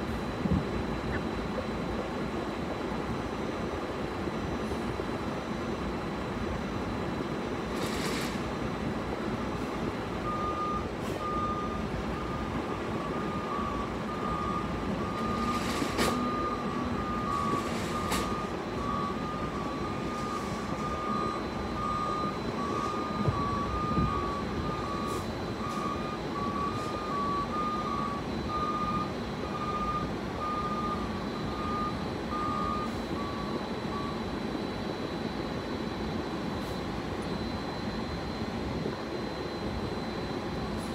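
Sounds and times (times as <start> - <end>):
truck reversing alarm beeping: 0.0 - 40.9.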